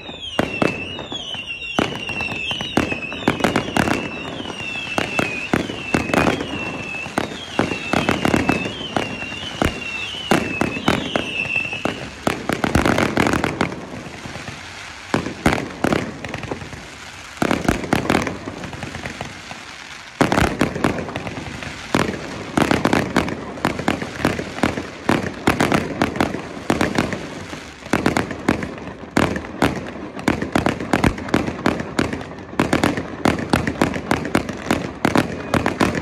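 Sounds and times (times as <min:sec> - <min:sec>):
high wavering firework whistle: 0:00.0 - 0:28.3, 0:33.5 - 0:36.0.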